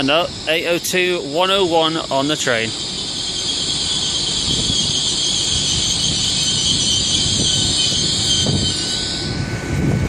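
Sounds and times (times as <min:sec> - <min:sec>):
high-pitched brake squeal: 0:00.0 - 0:10.0
train low rumble: 0:00.0 - 0:10.0.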